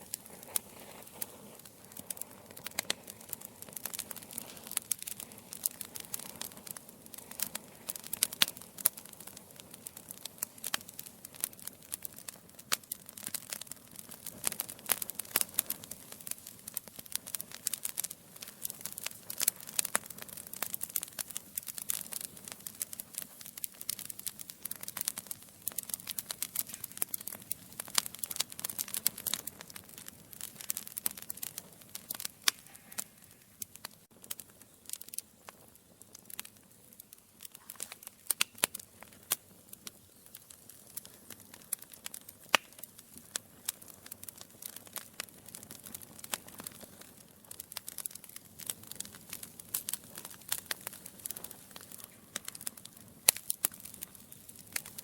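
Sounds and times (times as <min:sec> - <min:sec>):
logs crackling and popping: 0:00.0 - 0:55.0
soft hiss of flames: 0:00.0 - 0:55.0.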